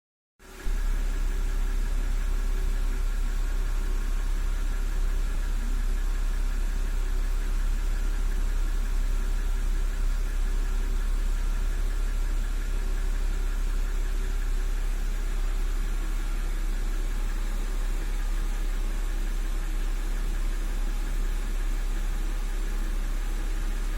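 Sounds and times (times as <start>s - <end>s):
car engine running: 0.4s - 23.9s
engine knocking: 0.4s - 23.9s.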